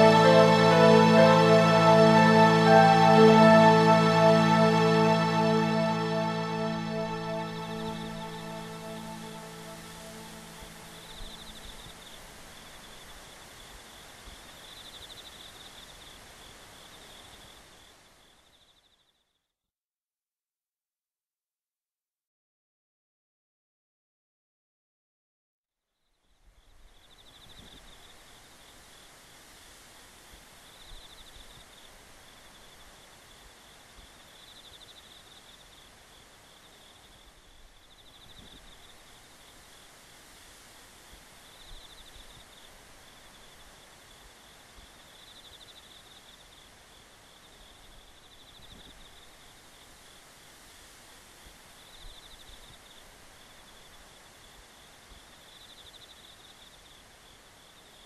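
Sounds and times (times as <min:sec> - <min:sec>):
low background hiss: 0:00.0 - 0:19.1, 0:26.3 - 0:58.0.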